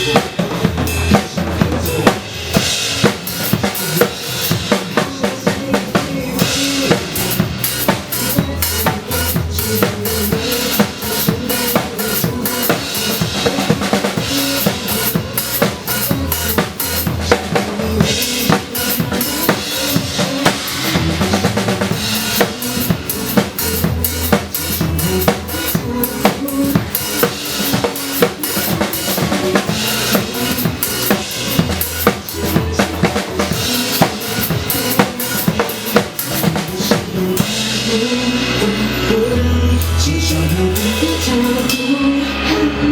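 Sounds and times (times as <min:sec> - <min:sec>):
drum kit playing a steady beat: 0:00.0 - 0:42.2
pop backing track: 0:00.0 - 0:42.9.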